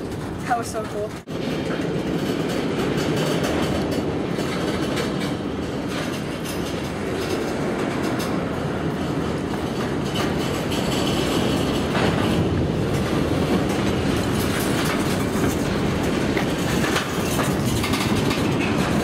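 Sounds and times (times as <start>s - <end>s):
steel train wheels rumbling: 0.0s - 19.0s
train wheel clacks: 0.0s - 19.0s.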